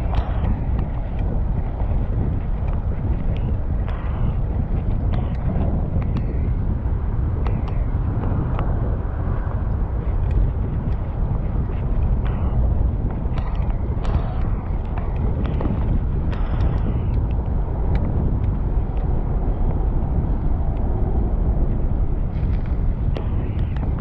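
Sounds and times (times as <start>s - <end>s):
street noise: 0.0s - 24.0s
wind buffeting microphone: 0.0s - 24.0s.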